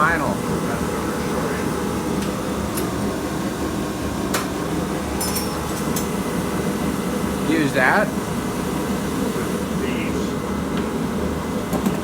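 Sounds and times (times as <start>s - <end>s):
machine humming: 0.0s - 11.8s.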